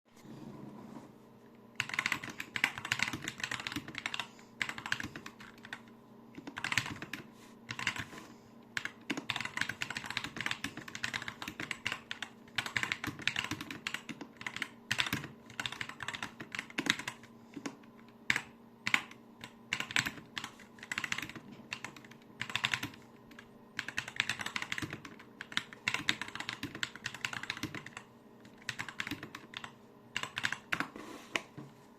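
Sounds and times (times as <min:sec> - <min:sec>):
typing on mechanical keyboard: 0:01.8 - 0:08.1, 0:08.8 - 0:30.9.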